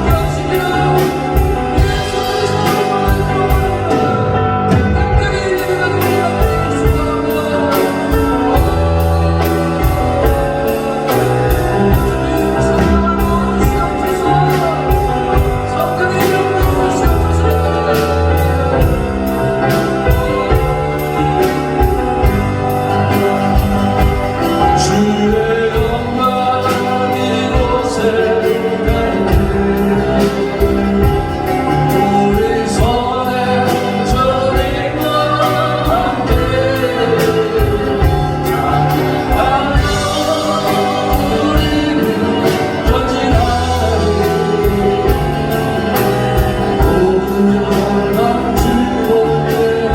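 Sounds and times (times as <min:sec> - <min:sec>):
band accompaniment: 0:00.0 - 0:49.9
drum beat: 0:00.0 - 0:49.9
voices singing: 0:00.0 - 0:49.9.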